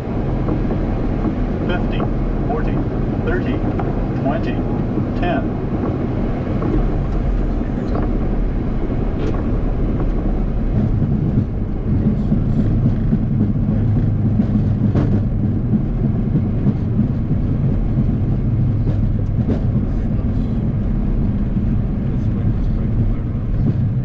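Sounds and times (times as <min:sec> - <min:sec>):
aircraft cockpit rumbling: 0:00.0 - 0:24.0.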